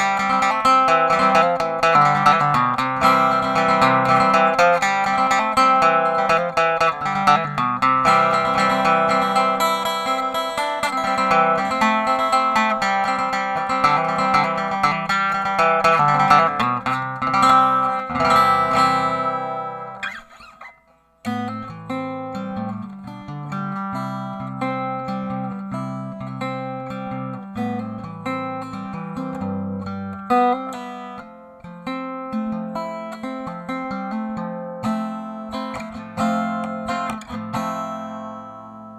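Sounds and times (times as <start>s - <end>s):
acoustic guitar chords: 0.0s - 38.9s.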